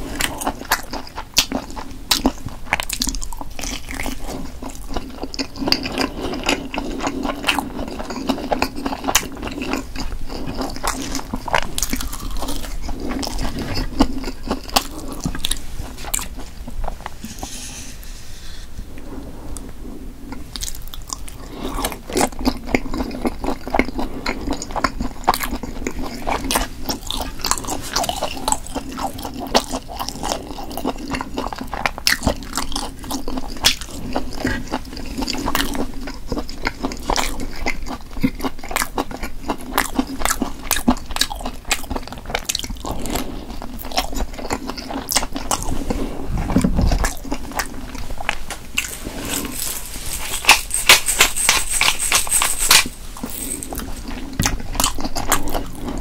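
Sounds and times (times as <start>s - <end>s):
chewing and biting: 0.0s - 17.6s, 20.3s - 56.0s.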